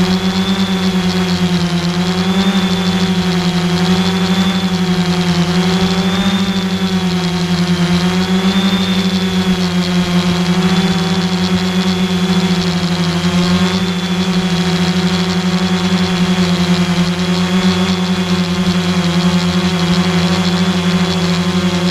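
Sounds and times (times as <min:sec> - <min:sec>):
drone motors whining: 0:00.0 - 0:21.9.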